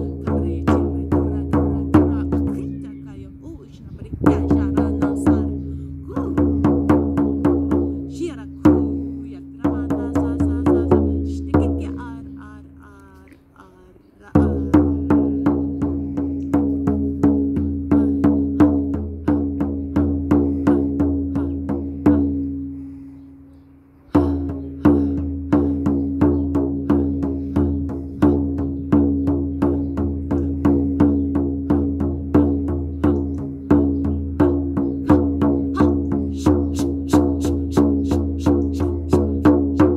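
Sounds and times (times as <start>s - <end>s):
frame drum beating: 0.0s - 12.6s, 14.3s - 22.9s, 24.1s - 39.9s.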